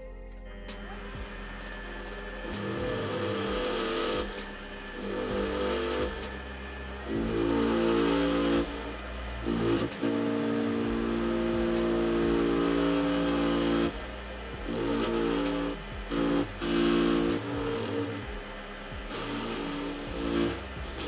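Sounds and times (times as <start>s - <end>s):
metal lathe cutting aluminium: 1.0s - 21.0s.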